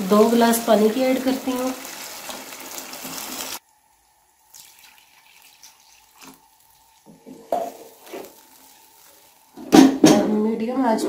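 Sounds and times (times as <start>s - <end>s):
water splashing and hissing in pot: 0.0s - 10.1s.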